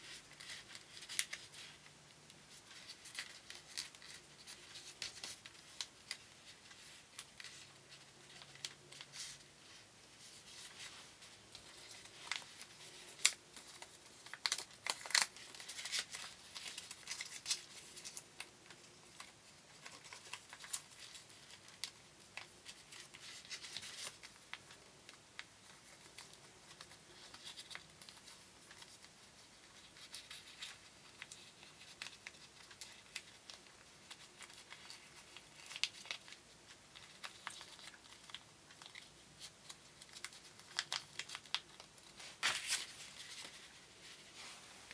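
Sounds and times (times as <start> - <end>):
paper being folded and creased: 0.0 - 44.9.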